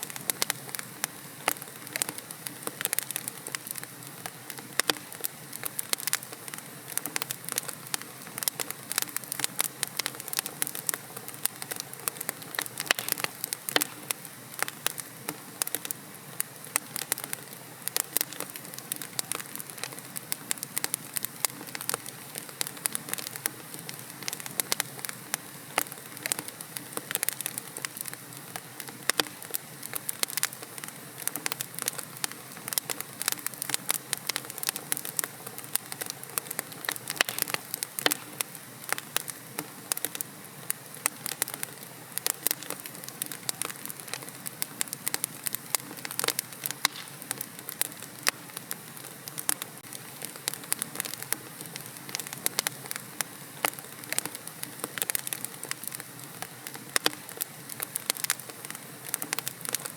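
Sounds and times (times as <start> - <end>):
fire hissing: 0.0 - 59.9
logs crackling and popping: 0.0 - 59.9.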